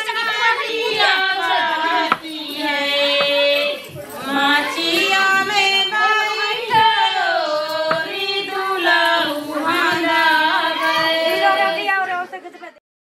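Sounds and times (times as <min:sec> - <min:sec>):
high voice singing: 0:00.0 - 0:12.0.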